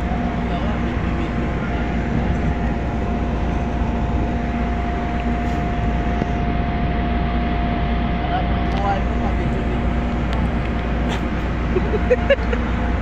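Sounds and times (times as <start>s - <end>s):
diesel engine drone: 0.0s - 13.0s
high-pitched whine: 0.0s - 13.0s.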